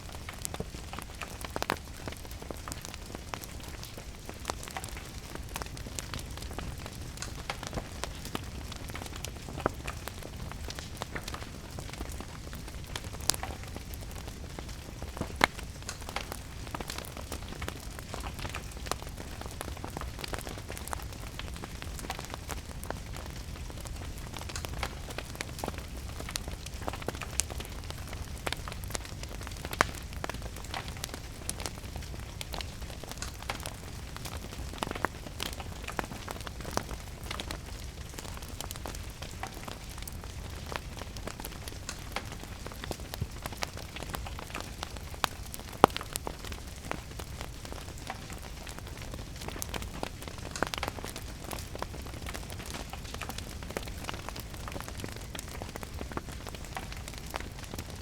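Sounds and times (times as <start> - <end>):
rain patter: 0.0 - 58.0
wood fire crackling: 0.0 - 58.0.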